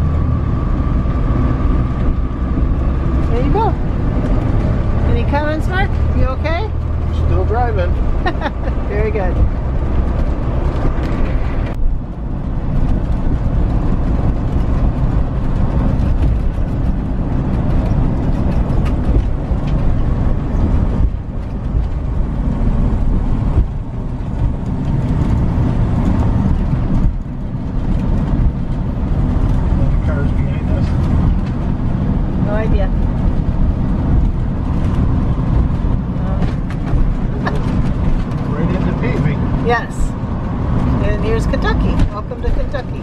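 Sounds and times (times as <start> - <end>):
truck engine and road rumble: 0.0 - 43.0.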